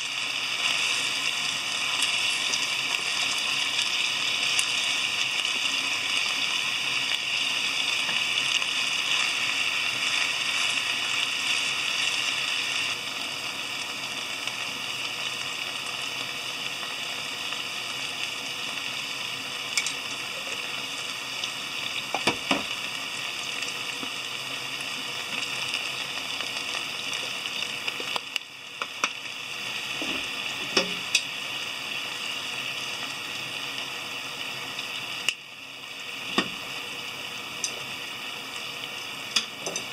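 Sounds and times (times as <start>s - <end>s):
food sizzling in frying pan: 0.0s - 39.9s.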